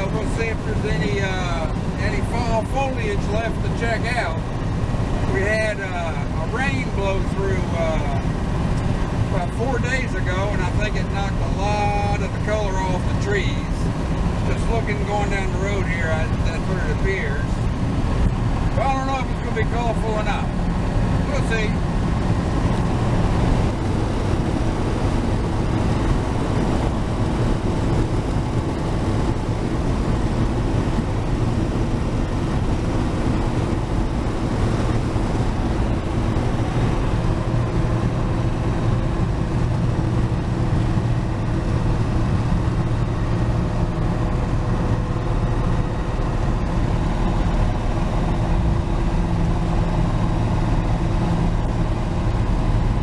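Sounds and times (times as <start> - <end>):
pickup engine cruising: 0.0 - 53.0
road noise: 0.0 - 53.0.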